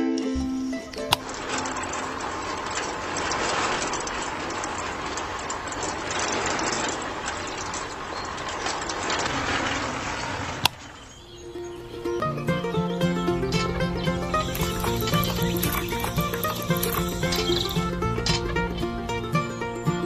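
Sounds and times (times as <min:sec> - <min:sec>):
small concrete mixer whirring: 0:00.3 - 0:20.0.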